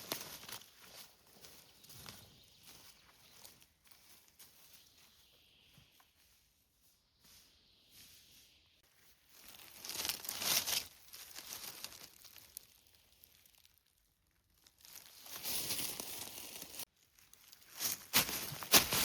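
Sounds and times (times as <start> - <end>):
dry leaves and twigs crunching: 0.0 - 19.0.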